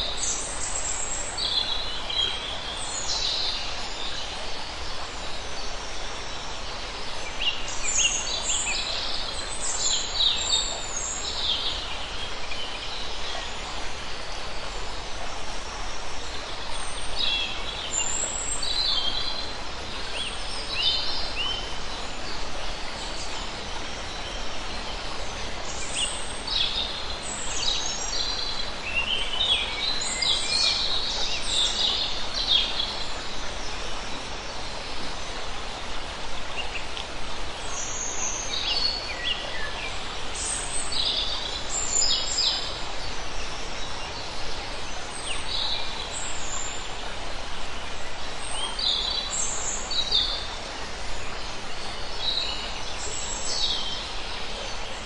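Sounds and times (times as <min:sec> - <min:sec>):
stream running over stones: 0:00.0 - 0:55.0.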